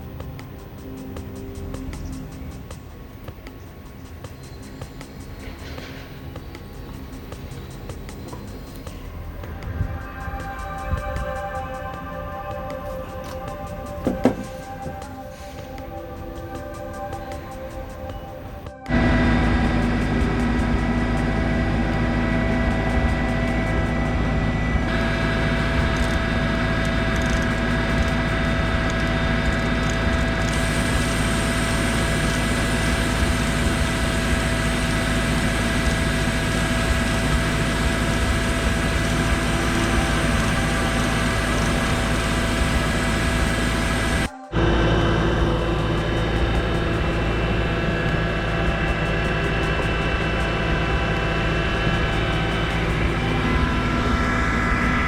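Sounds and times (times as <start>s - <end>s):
watercraft engine running: 0.0s - 55.0s.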